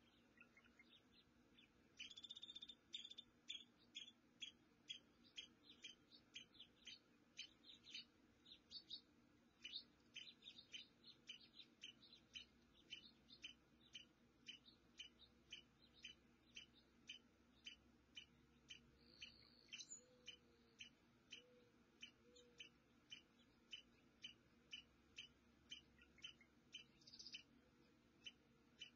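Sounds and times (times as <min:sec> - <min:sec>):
small animal chirping: 0:00.0 - 0:27.5, 0:28.2 - 0:28.9.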